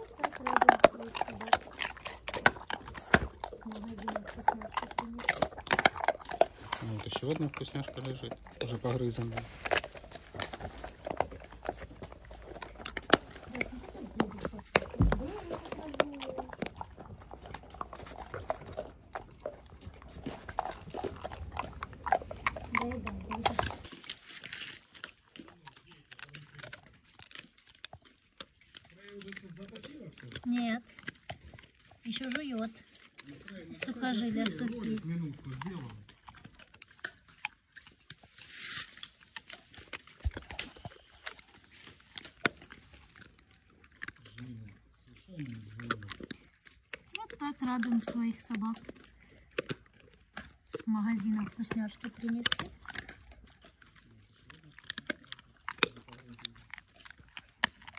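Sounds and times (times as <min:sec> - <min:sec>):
dog chewing with crunches: 0:00.0 - 0:57.9.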